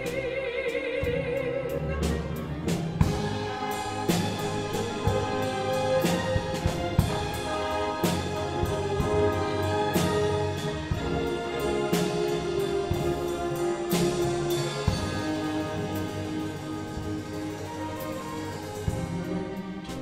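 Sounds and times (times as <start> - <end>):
orchestra playing held chords: 1.7 - 20.0.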